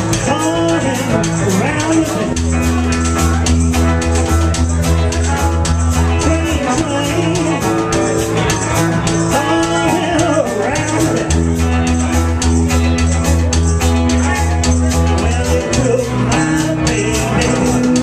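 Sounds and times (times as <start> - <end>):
bending lead guitar line: 0.0 - 18.0
live rockabilly band playing: 0.0 - 18.0.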